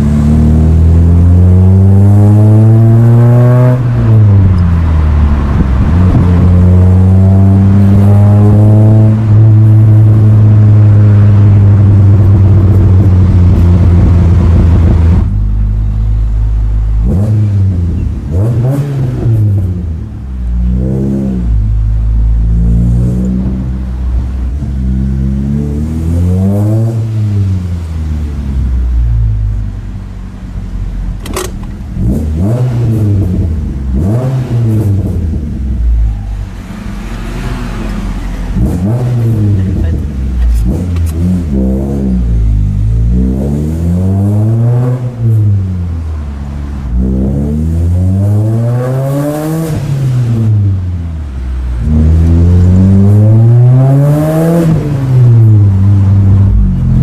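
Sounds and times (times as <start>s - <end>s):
car engine droning and revving: 0.0s - 57.0s.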